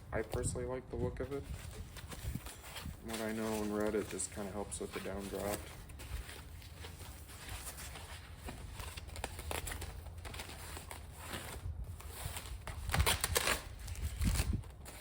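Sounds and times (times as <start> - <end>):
rustling and crinkling handling: 0.0 - 15.0.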